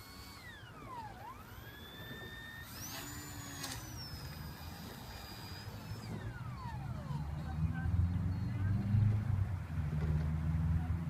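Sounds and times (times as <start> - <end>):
model plane motor whining: 0.0 - 9.2.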